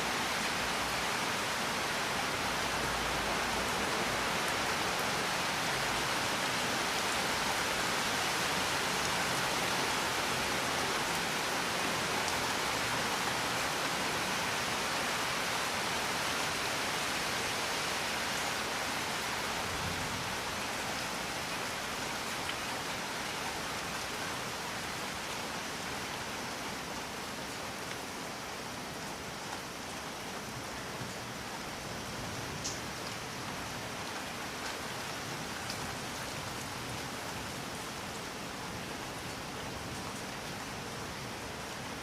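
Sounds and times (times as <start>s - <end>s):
steady dense rainfall: 0.0s - 42.0s.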